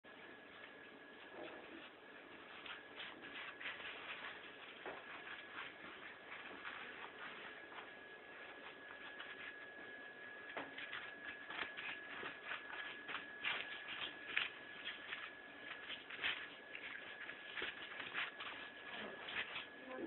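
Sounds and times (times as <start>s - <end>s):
faint high whine: 0.1s - 20.0s.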